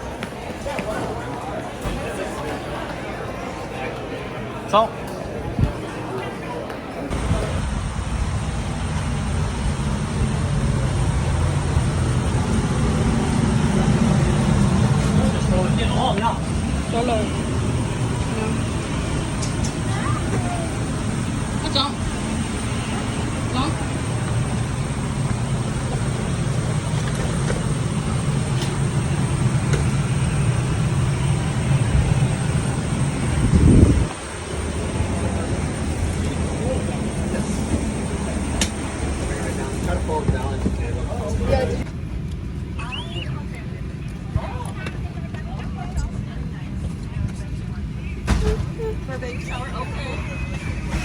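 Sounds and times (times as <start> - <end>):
jet airliner rumble and hiss: 6.7 - 51.0.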